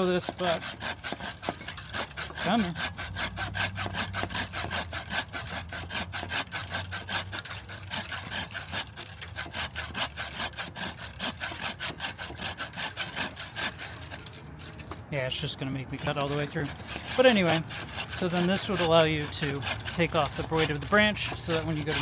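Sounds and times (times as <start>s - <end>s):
hand saw cutting branch: 0.0s - 22.0s.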